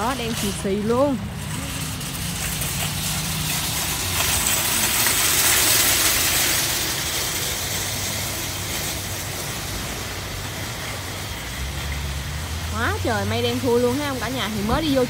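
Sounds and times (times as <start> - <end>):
rain hissing on wet pavement: 0.0 - 15.0.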